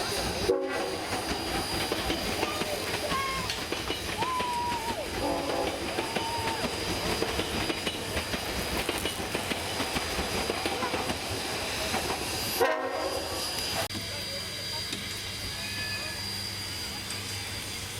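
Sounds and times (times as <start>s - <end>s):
train carriages rumbling on track: 0.0s - 17.9s.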